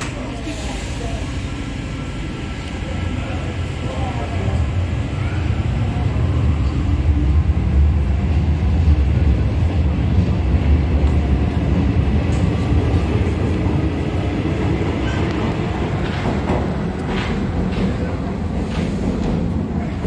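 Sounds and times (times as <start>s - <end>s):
train rumbling pulling out: 0.0s - 20.0s.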